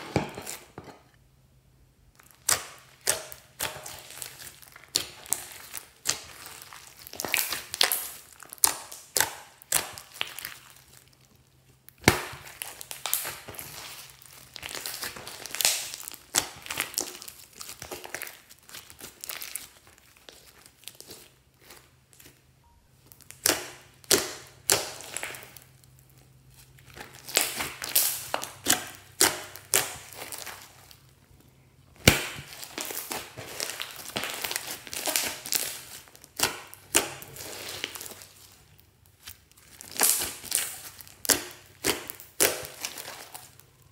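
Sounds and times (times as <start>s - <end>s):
slime crackling and popping: 2.1s - 43.9s.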